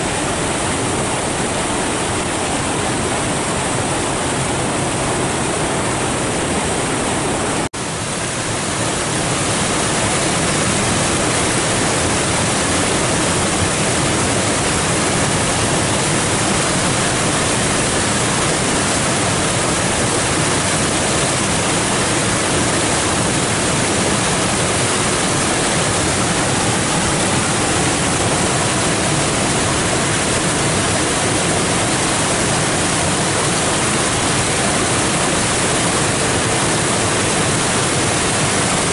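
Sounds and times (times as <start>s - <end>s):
creek rushing over rocks: 0.0s - 38.9s.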